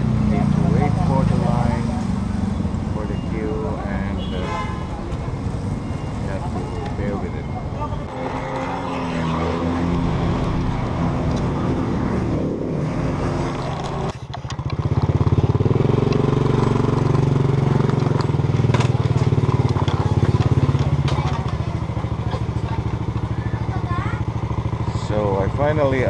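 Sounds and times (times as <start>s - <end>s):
road and wind noise: 0.0s - 26.0s
motor scooter engine: 4.8s - 26.0s.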